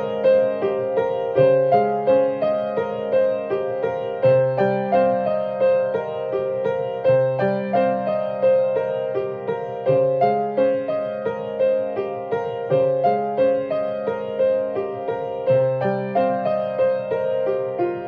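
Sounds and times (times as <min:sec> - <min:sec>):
solo piano playing: 0:00.0 - 0:18.0.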